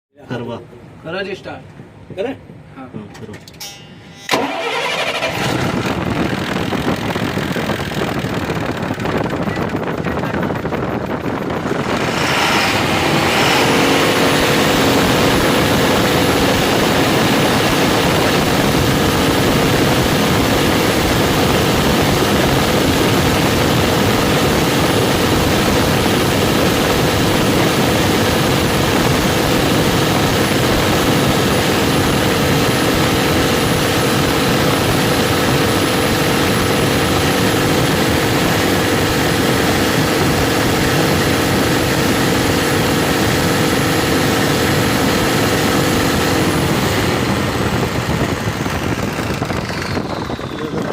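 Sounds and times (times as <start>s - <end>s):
steady whine: 0.2s - 50.9s
diesel engine running: 4.3s - 50.9s.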